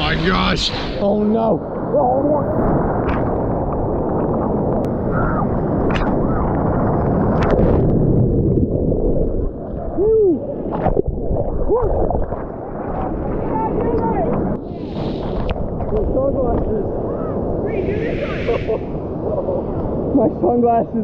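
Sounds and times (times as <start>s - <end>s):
ocean surf churning: 0.0s - 21.0s
water gurgling over microphone: 0.0s - 21.0s.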